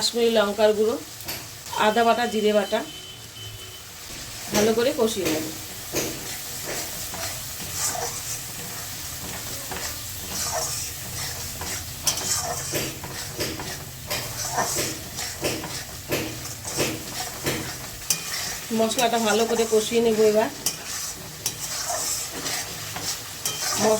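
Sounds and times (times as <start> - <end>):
spice paste sizzling in oil: 0.0 - 23.9
spatula scraping a pan: 4.1 - 23.9.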